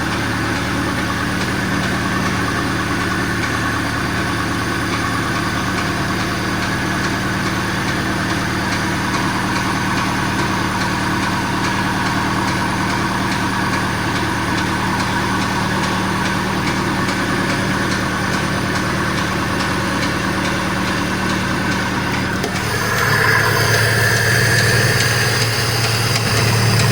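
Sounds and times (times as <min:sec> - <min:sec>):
engine idling with knock: 0:00.0 - 0:26.9.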